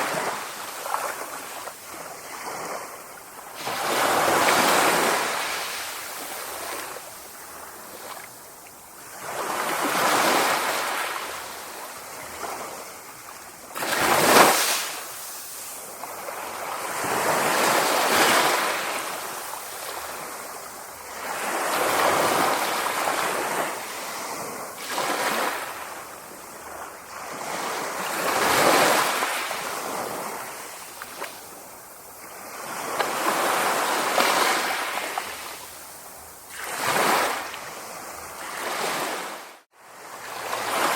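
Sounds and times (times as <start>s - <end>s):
sea waves washing in: 0.0s - 40.9s.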